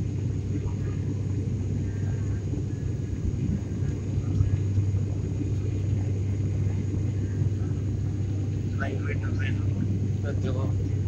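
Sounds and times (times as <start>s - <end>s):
airliner engines droning: 0.0s - 11.0s.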